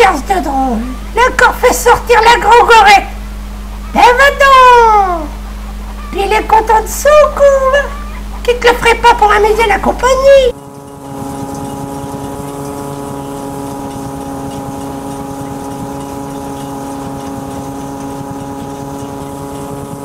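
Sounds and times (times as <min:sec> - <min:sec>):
threshing machine humming: 0:00.0 - 0:20.0.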